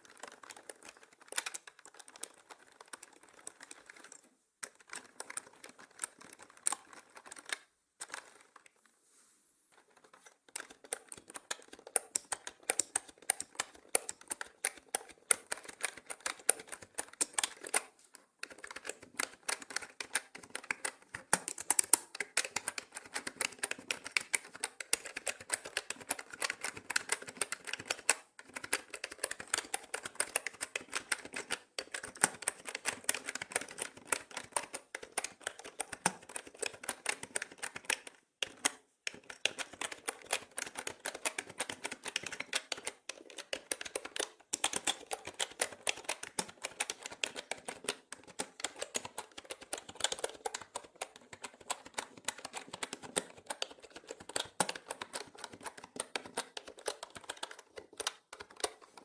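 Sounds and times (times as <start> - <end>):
mechanical keyboard typing: 0.0 - 8.7, 9.8 - 59.0.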